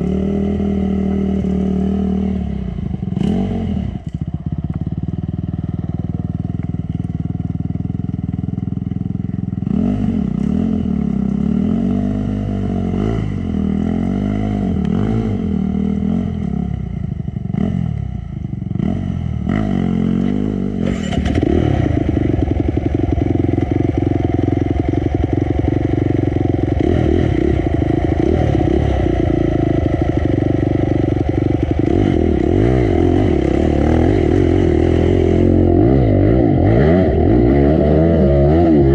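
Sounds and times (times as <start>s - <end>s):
dirt bike engine revving: 0.0s - 4.1s, 9.6s - 16.8s, 18.7s - 38.9s.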